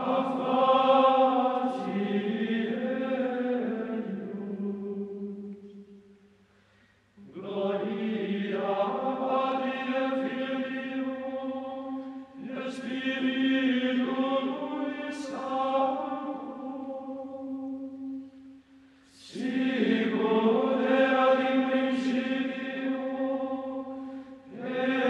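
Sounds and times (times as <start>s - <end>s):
slow choral chant: 0.0s - 25.0s.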